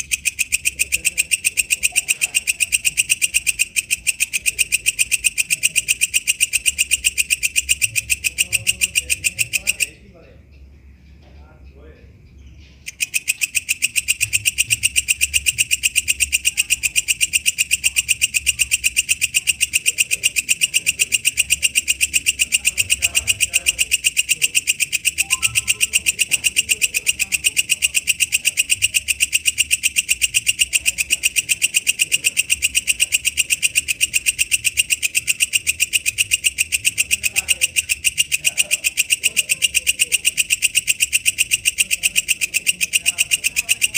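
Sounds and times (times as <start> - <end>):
katydid calling with sharp ticks: 0.0 - 10.0, 12.9 - 43.9.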